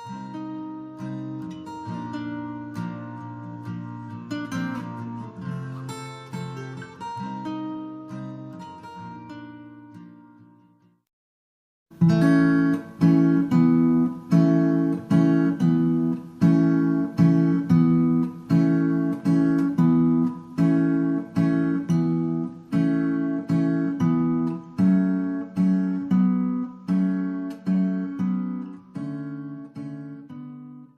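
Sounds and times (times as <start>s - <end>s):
acoustic guitar strumming: 0.0s - 11.0s, 11.9s - 30.9s.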